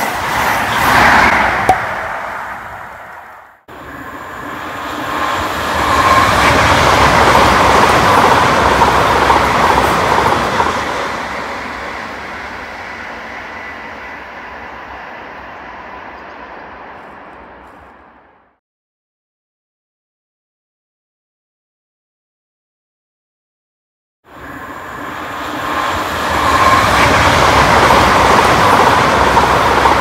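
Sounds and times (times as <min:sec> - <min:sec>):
electric train passing: 0:00.0 - 0:18.6, 0:24.3 - 0:30.0.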